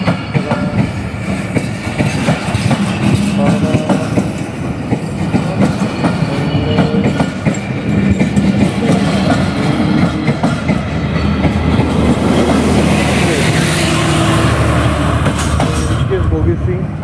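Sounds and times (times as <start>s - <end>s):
train wheels clattering: 0.0s - 16.5s.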